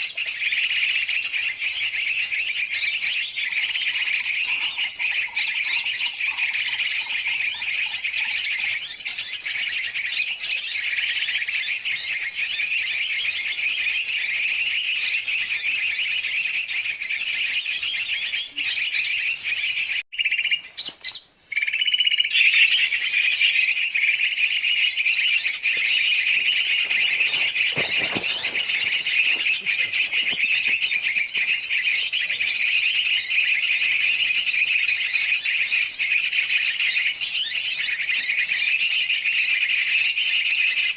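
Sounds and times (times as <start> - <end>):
many birds chattering and chirping: 0.0 - 40.9.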